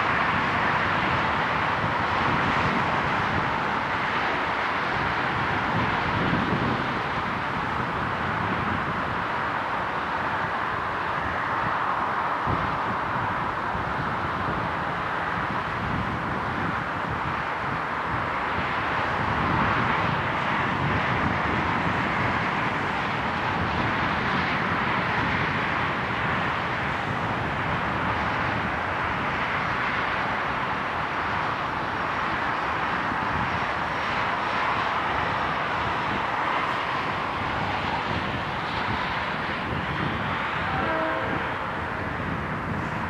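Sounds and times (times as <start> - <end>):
diesel locomotive engine roaring: 0.0 - 43.0.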